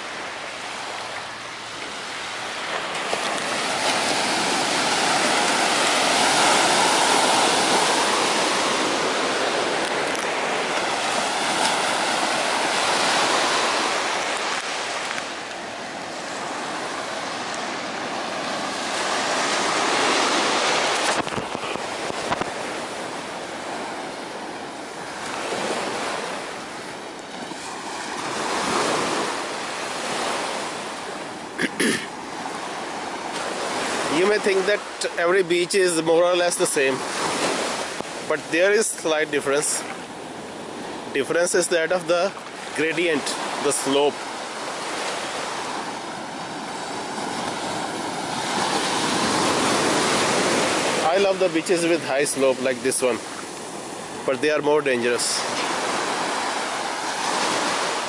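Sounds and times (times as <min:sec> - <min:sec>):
surf breaking on sandy beach: 0:00.0 - 0:58.0.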